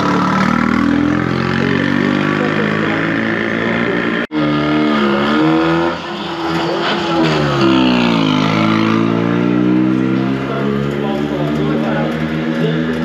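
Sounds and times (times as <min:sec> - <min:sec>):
vintage car engine revving: 0:00.0 - 0:13.0.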